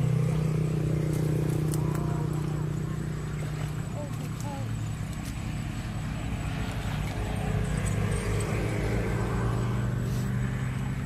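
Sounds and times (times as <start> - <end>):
motor engine running: 0.0 - 11.0.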